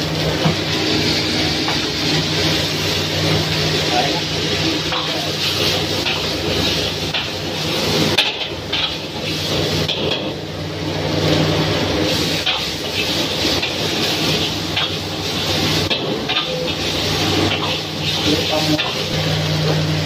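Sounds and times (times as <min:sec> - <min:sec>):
noodles sizzling in a wok: 0:00.0 - 0:20.0.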